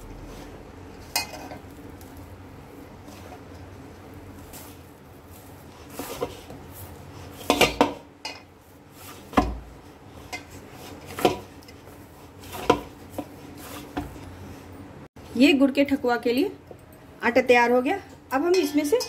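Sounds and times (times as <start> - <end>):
dough kneaded in steel bowl: 0.0 - 16.5.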